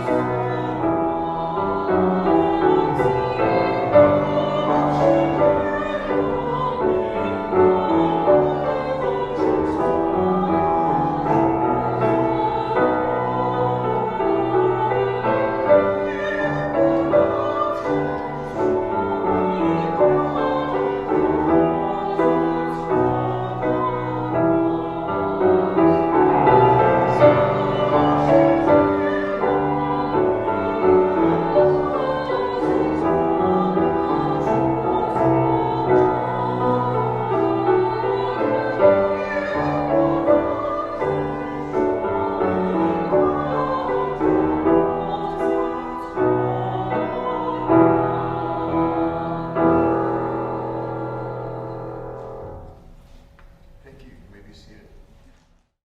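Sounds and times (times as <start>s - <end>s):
voices singing an anthem: 0.0s - 52.7s
piano accompaniment: 0.0s - 54.4s.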